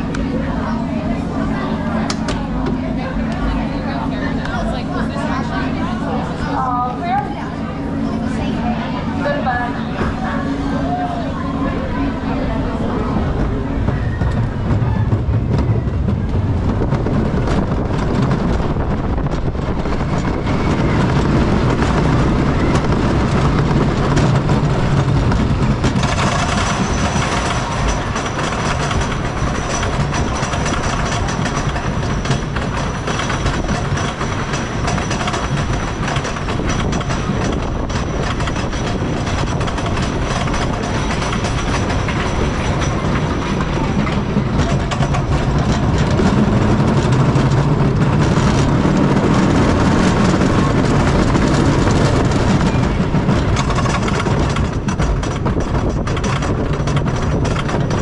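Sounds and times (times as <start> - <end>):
lift hill hum: 0.0 - 58.0
roller coaster rattling on wooden track: 0.0 - 58.0.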